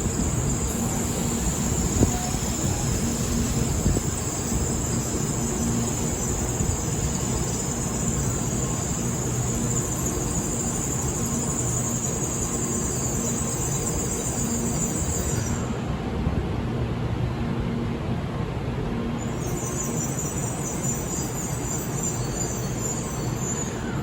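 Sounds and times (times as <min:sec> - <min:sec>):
high-pitched train brake squeal: 0:00.0 - 0:16.0, 0:19.2 - 0:24.0
train low rumble: 0:00.0 - 0:24.0.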